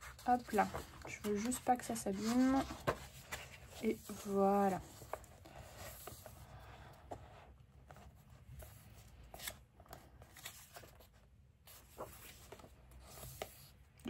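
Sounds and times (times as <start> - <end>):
paper rustling: 0.0 - 13.8.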